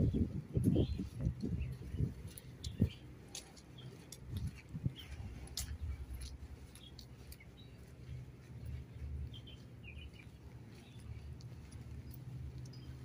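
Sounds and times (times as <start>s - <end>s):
wind buffeting microphone: 0.0s - 13.0s
light clicks: 0.6s - 9.4s, 10.0s - 13.0s.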